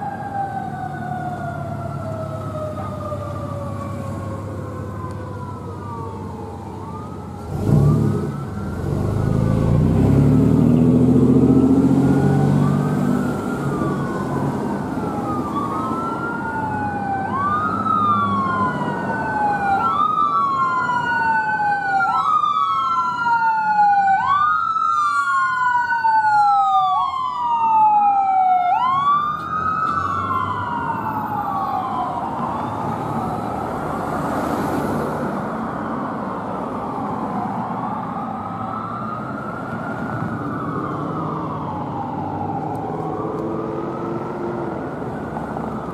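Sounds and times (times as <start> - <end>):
emergency sirens wailing: 0.0 - 45.9.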